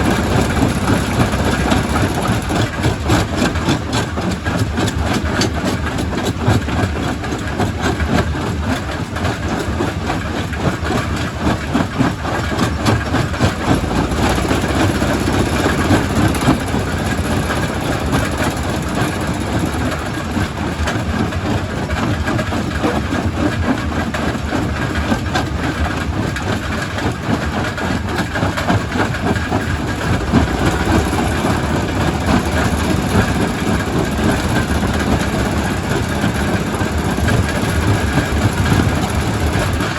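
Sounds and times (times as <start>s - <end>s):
heavy engine rumble: 0.0s - 39.9s.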